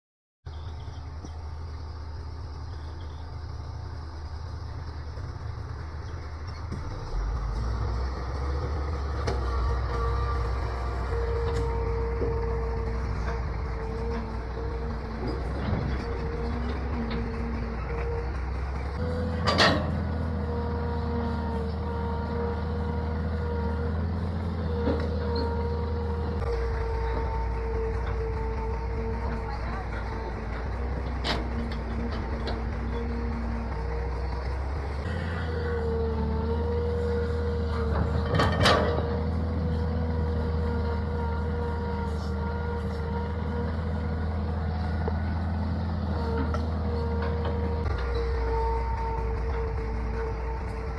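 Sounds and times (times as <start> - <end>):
excavator diesel engine running: 0.5 - 50.9.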